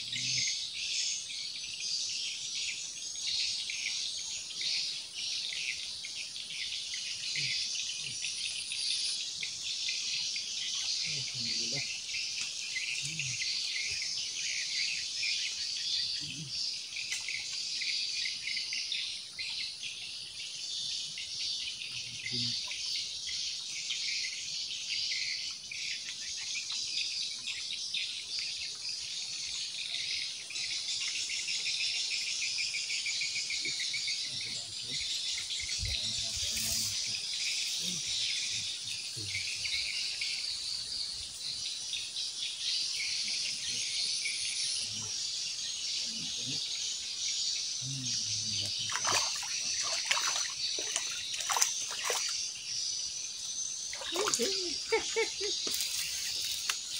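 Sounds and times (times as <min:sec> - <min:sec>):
insects chorus pulsing buzz: 0:00.0 - 0:56.9.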